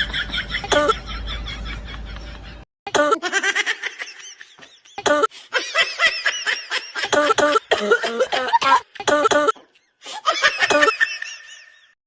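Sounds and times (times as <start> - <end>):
high-pitched laughing: 0.0 - 11.9.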